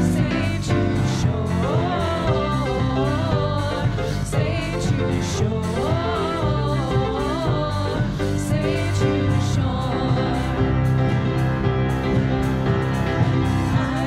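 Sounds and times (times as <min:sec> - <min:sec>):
women singing: 0:00.0 - 0:11.0, 0:13.6 - 0:14.0
drum kit: 0:00.0 - 0:14.0
guitar: 0:00.0 - 0:14.0.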